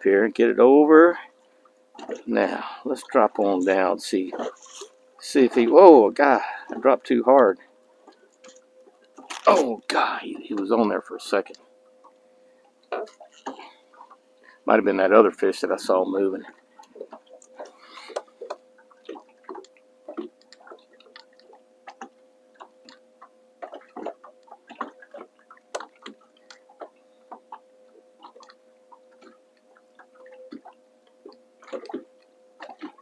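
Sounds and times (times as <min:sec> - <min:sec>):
faint steady hum: 0:00.0 - 0:33.0
waves lapping against boat hull: 0:00.0 - 0:33.0.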